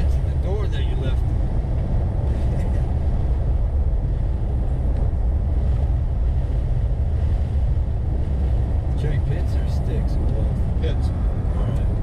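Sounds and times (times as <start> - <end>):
vehicle cab rumble while driving: 0.0 - 12.0.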